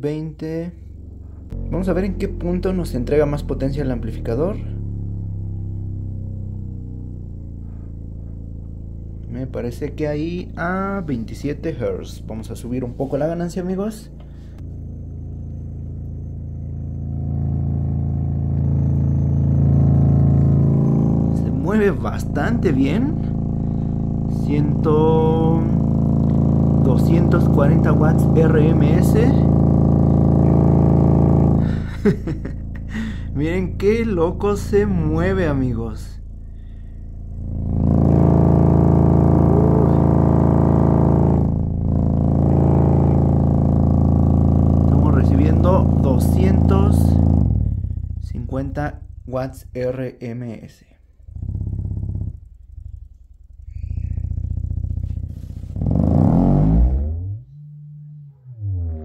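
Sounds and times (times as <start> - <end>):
subwoofer low hum with buzz: 0.0 - 59.0.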